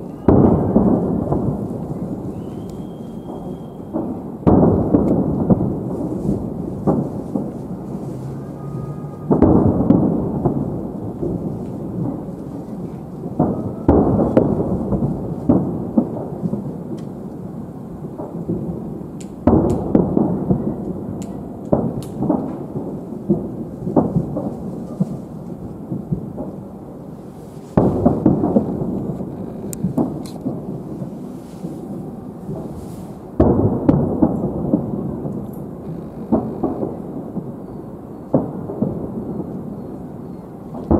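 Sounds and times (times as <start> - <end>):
distant firework booms: 0.0 - 40.9
faint firework crackles: 0.0 - 40.9.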